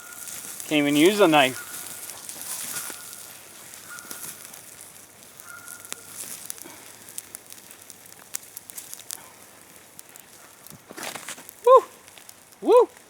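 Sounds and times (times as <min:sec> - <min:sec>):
campfire coals crackling: 0:00.0 - 0:13.0.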